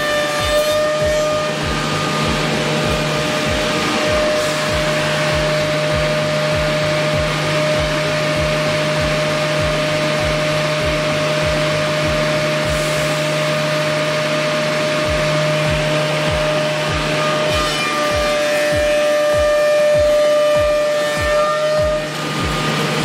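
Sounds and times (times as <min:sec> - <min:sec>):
machine whine: 0:00.0 - 0:23.0
milling machine running: 0:00.0 - 0:23.0.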